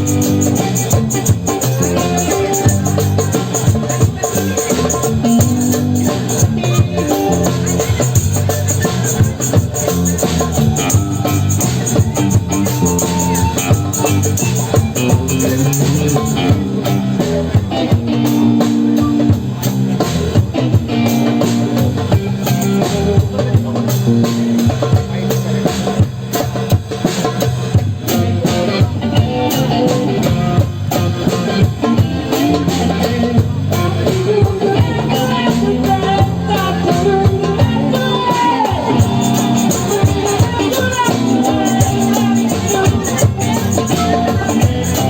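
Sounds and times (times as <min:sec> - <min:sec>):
bass line: 0:00.0 - 0:45.0
drum beat: 0:00.0 - 0:45.0
guitar: 0:00.0 - 0:45.0
live band jam music: 0:00.0 - 0:45.0.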